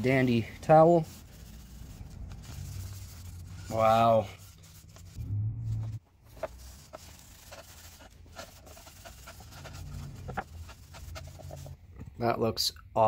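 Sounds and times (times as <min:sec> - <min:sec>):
towel rubbing wooden handle: 0:00.0 - 0:11.8.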